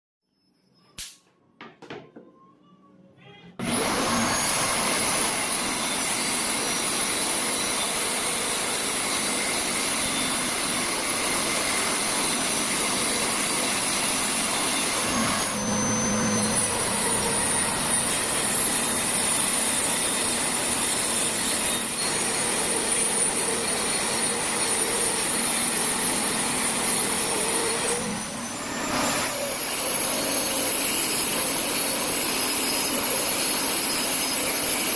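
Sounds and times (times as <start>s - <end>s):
power tool motor whining: 3.6s - 34.9s.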